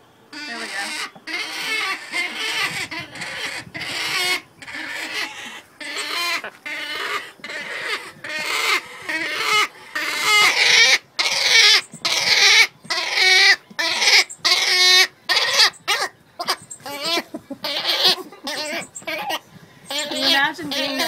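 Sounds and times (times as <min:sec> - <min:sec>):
stork chicks squawking: 0:00.4 - 0:21.0.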